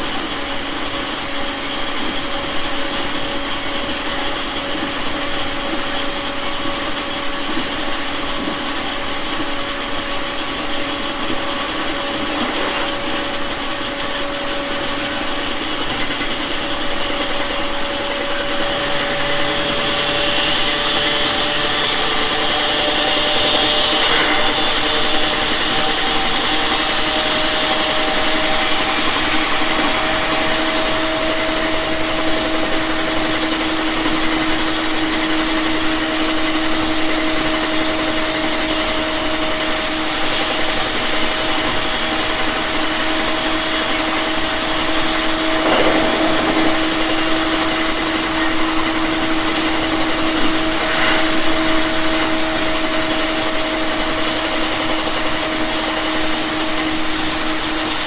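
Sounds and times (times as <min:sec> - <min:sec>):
train motor whine: 0:00.0 - 0:58.0
train rolling noise: 0:00.0 - 0:58.0.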